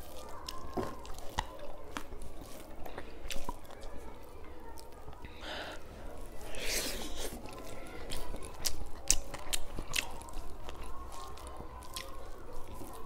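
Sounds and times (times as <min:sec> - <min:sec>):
person chewing with wet smacking: 0:00.0 - 0:13.0.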